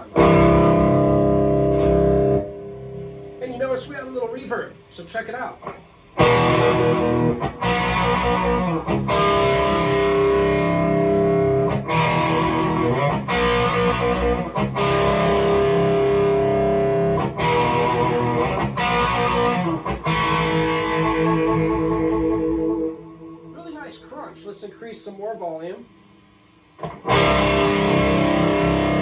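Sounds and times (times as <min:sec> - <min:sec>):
distorted electric guitar chords: 0:00.0 - 0:03.8, 0:05.6 - 0:24.1, 0:25.9 - 0:29.0.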